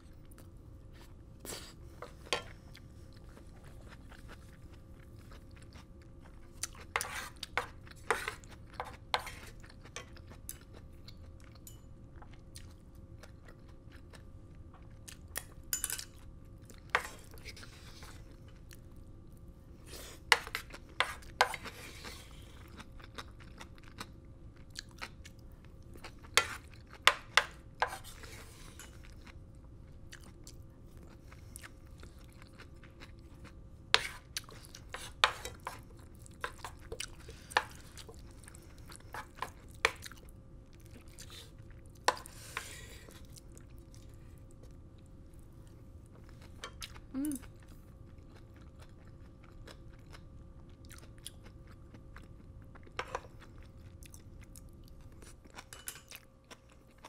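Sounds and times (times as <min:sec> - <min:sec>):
chewing food: 0:00.0 - 0:57.0.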